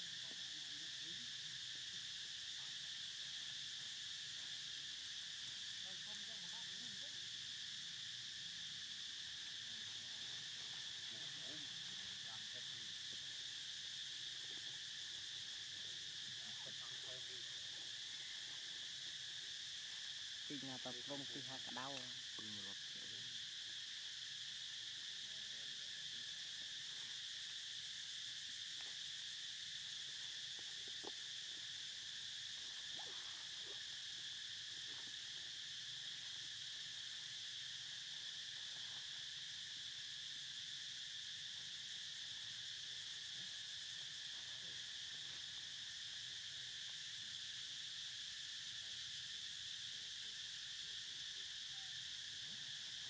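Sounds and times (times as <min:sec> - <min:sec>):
high-pitched insect chorus: 0:00.0 - 0:53.0.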